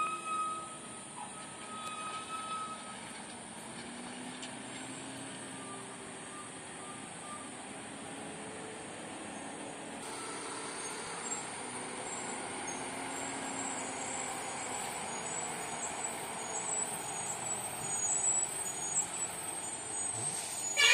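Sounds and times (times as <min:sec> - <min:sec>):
lorry engine climbing hill: 0:00.0 - 0:20.9.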